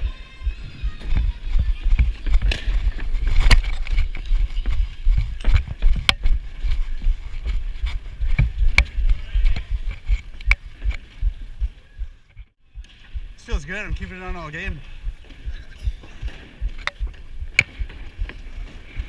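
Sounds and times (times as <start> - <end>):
wind and movement rumble: 0.0 - 19.0.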